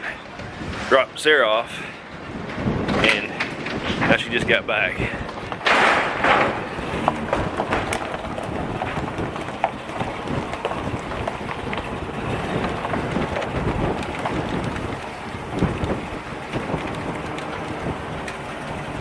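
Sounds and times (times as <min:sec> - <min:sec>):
storm wind rushing: 0:00.0 - 0:19.0.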